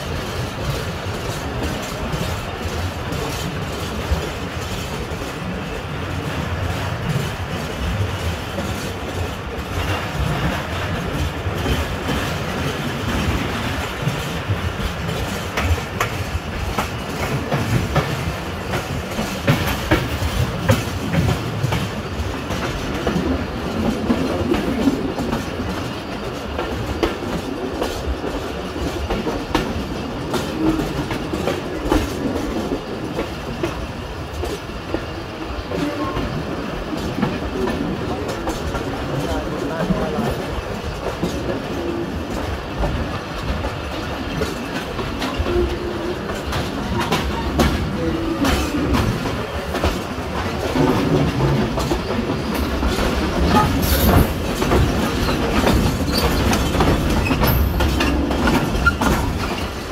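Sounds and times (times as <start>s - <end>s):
train running rumble: 0.0s - 59.9s
train wheels clattering over rail joints: 0.0s - 59.9s.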